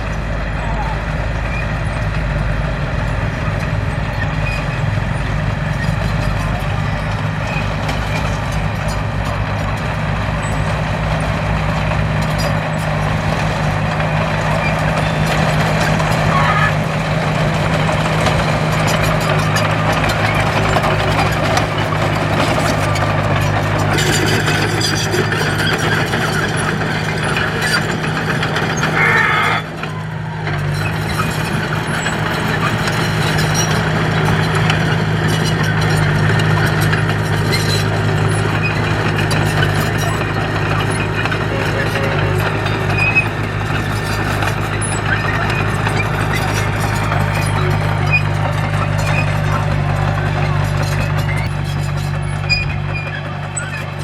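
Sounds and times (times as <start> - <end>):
diesel machinery running: 0.0 - 54.0
rough grinding noise: 0.0 - 54.0.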